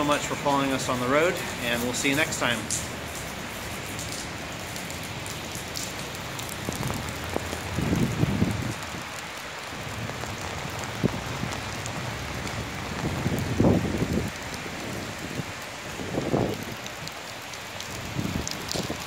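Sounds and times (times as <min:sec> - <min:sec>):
rain on wet pavement: 0:00.0 - 0:19.0.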